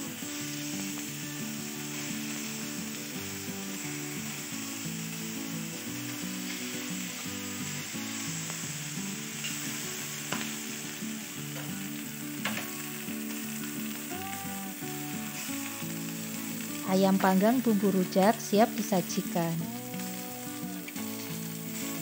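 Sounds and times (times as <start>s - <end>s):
chicken sizzling in grill pan: 0.0s - 22.0s.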